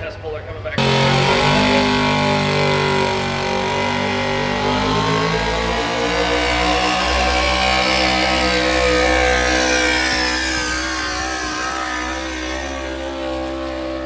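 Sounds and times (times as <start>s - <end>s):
truck engine running under load: 0.8s - 14.0s.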